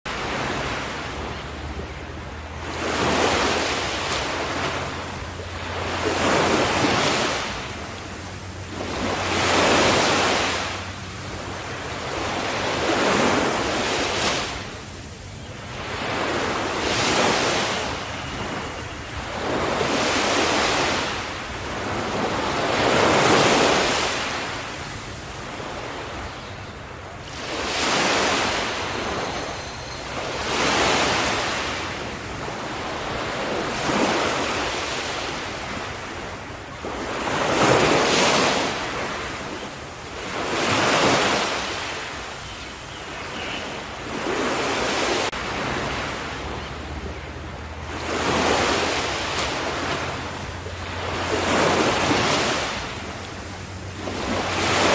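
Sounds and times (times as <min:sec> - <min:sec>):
ocean waves washing ashore: 0:00.1 - 0:54.9.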